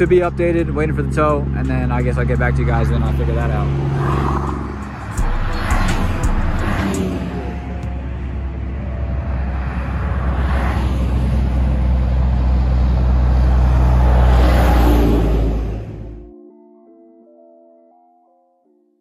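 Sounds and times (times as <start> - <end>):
highway traffic rumbling: 0.0 - 16.3.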